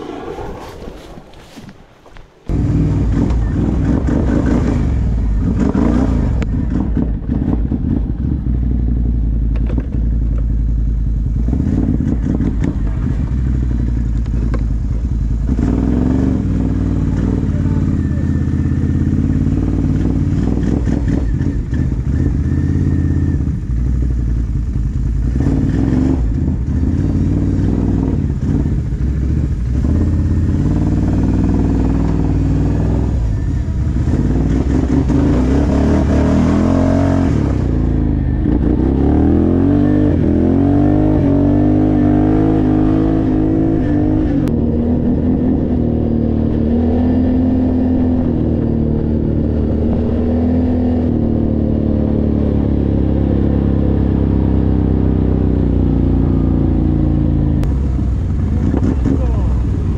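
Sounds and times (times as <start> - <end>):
atv engine revving: 2.5 - 59.9.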